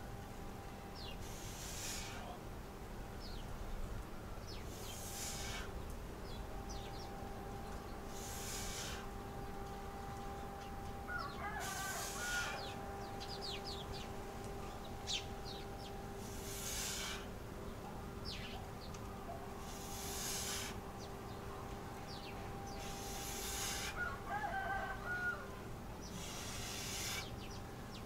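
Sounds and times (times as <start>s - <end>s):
faint steady hum: 0.0s - 28.0s
small birds chirping: 0.9s - 2.4s, 3.2s - 24.2s, 26.0s - 28.0s.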